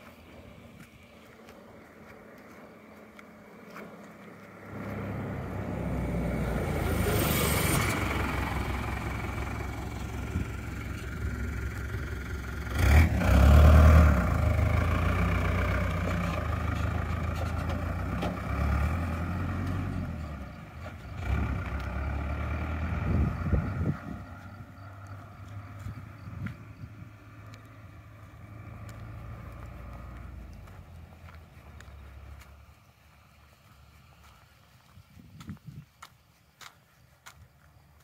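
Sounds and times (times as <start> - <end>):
small truck passing: 0.0 - 35.0.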